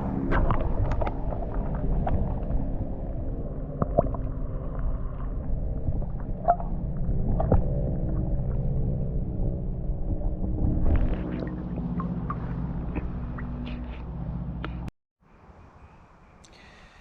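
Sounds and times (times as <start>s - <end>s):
muffled underwater river rumble: 0.0s - 14.7s.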